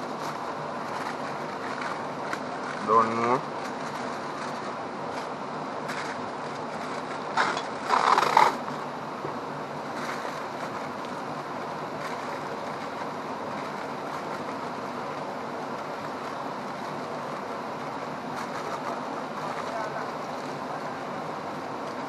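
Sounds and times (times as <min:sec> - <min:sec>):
loud rustle: 0:00.0 - 0:08.8, 0:09.9 - 0:22.0.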